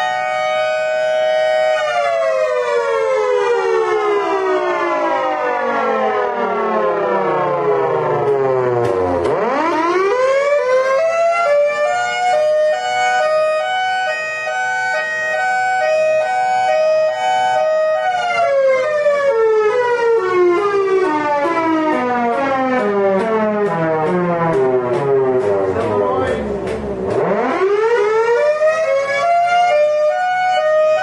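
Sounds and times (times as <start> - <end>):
miniature siren wailing: 0.0 - 25.4, 27.2 - 31.0.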